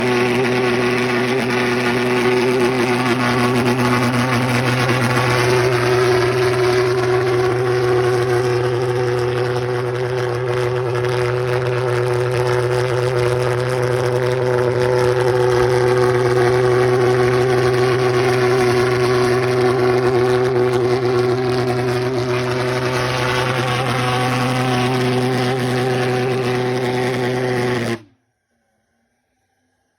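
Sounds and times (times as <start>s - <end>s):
pulse jet engine droning: 0.0s - 28.1s.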